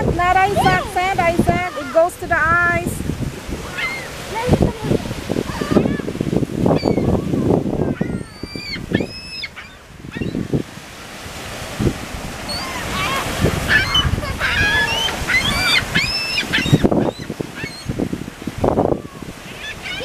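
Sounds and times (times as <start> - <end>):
gulls calling: 0.0 - 20.0
surf: 0.0 - 20.0
wind rumble: 0.0 - 20.0.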